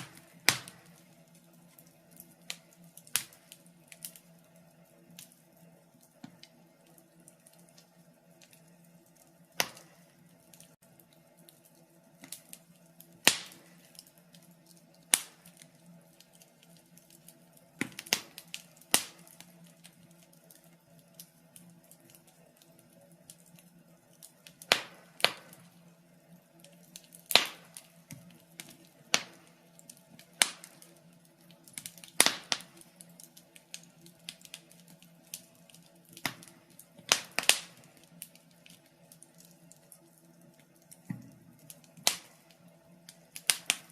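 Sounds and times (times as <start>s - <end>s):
faint steady hum: 0.0s - 43.9s
wood fire crackling: 0.0s - 43.9s.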